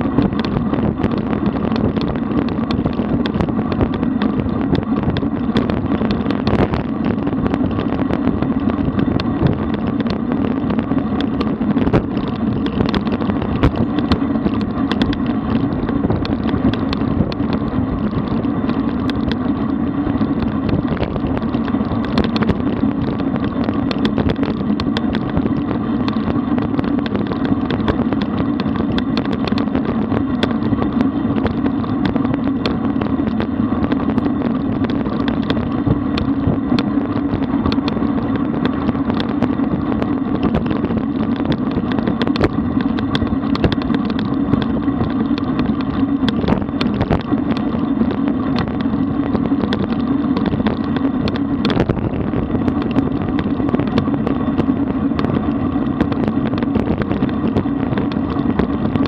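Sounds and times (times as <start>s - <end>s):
bicycle road noise rumble: 0.0s - 59.0s
small rattles and knocks: 0.0s - 59.0s.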